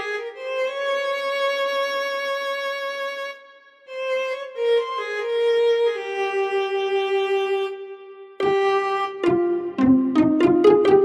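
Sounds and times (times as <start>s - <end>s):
keyboard violin melody: 0.0s - 11.0s.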